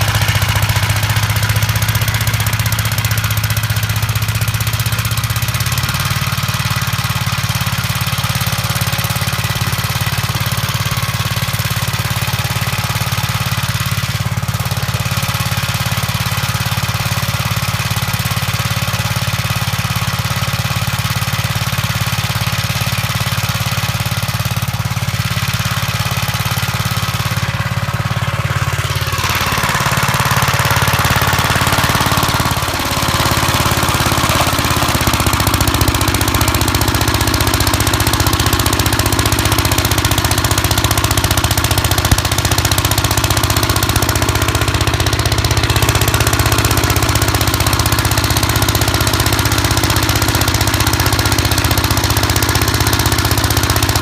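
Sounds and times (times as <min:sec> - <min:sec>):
small engine running: 0:00.0 - 0:54.0
snow blower rushing: 0:00.0 - 0:54.0.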